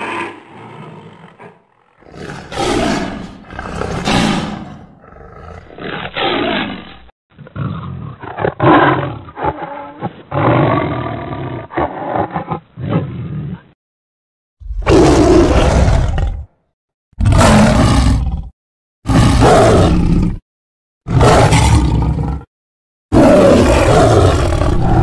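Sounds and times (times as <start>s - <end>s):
big cat roars and snarls: 0.0s - 13.8s, 14.6s - 16.6s, 17.2s - 20.4s, 21.1s - 22.5s, 23.1s - 25.0s.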